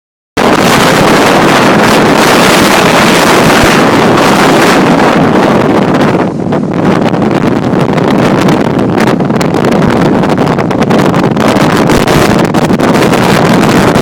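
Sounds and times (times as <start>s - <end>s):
gusty wind buffeting microphone: 0.4s - 14.0s.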